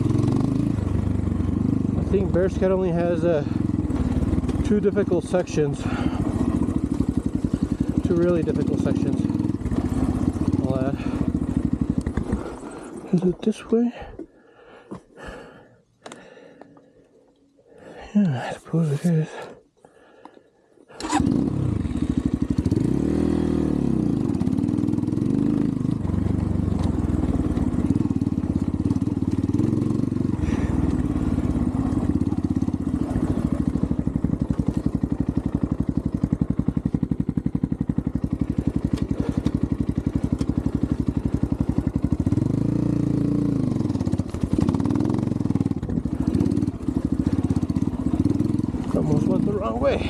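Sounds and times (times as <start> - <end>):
dirt bike engine running: 0.0 - 14.1, 21.0 - 50.0.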